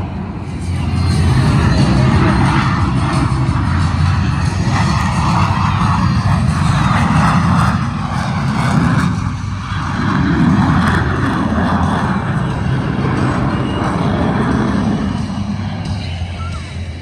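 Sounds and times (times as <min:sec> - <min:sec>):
jet aircraft flying past: 0:00.0 - 0:17.0.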